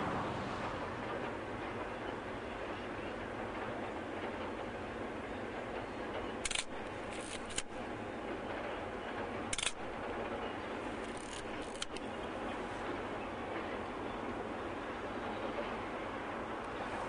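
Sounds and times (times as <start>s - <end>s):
distant diesel freight train rumble: 0.0s - 17.0s.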